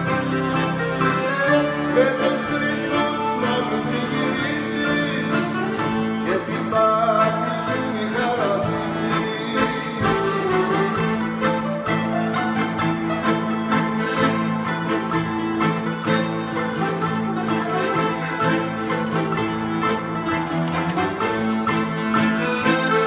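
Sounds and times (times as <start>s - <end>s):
accordion chords: 0.0s - 23.0s
plucked string melody: 0.0s - 23.0s.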